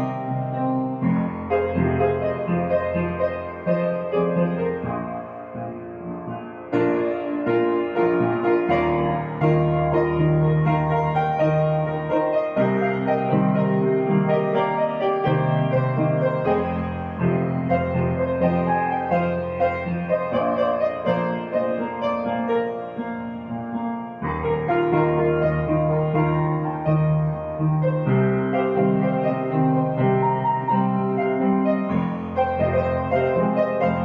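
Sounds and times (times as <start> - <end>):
gentle classical piano music: 0.0 - 34.0.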